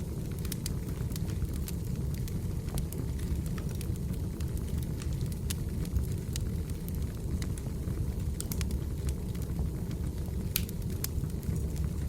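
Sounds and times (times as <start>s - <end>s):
fire low rumble: 0.0s - 12.0s
wood crackling and popping: 0.0s - 12.0s.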